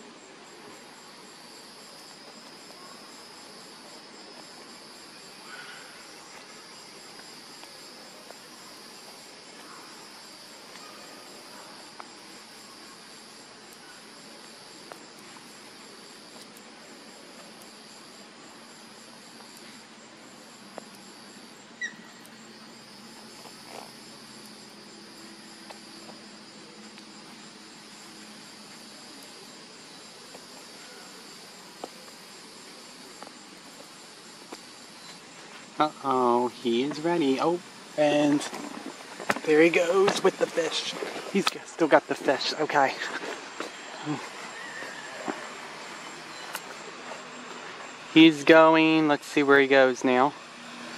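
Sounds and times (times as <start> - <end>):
insect chorus buzzing: 0.0 - 50.9.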